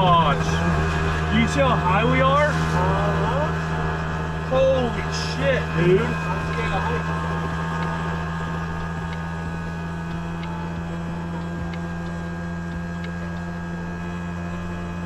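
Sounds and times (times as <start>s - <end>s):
auto-rickshaw engine droning: 0.0s - 15.0s.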